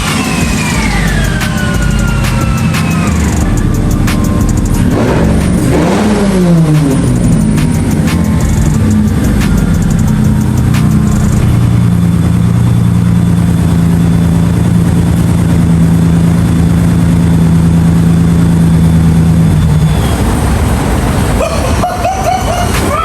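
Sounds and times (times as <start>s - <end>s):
car engine running loud: 0.0s - 23.0s.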